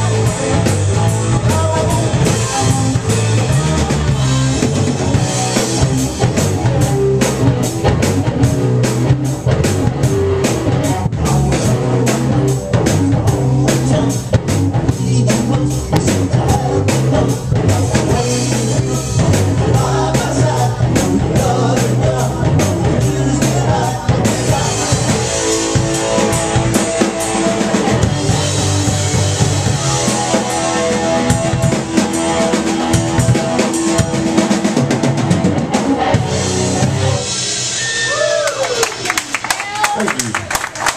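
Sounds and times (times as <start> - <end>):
rock band playing: 0.0 - 40.9.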